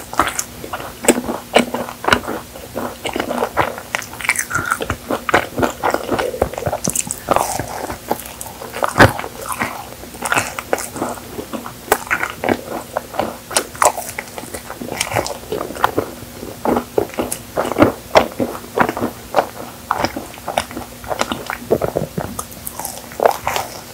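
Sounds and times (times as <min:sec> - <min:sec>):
wet chewing and mouth smacks: 0:00.0 - 0:23.9.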